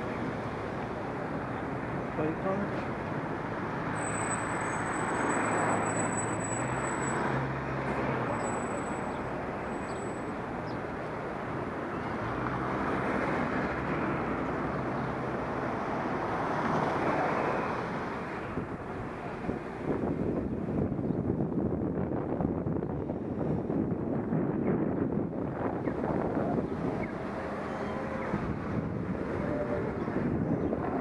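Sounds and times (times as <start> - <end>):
motor vehicles passing: 0.0 - 31.0.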